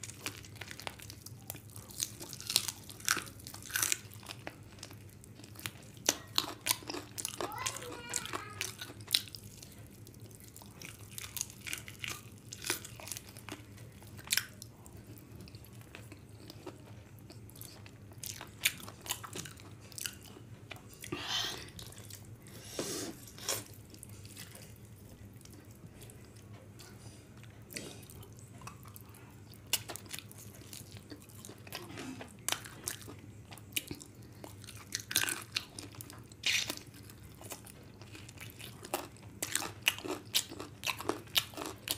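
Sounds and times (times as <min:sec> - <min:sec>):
person chewing and crunching food: 0:00.0 - 0:41.9.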